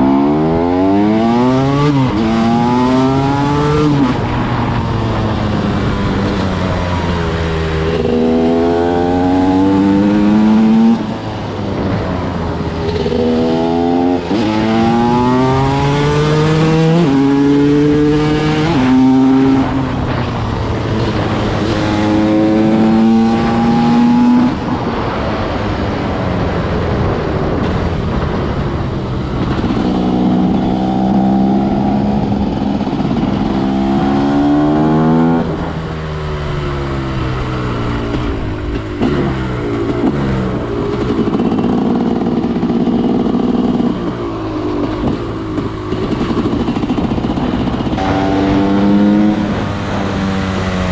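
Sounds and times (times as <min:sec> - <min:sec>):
motorcycle engine at full throttle: 0:00.0 - 0:50.9.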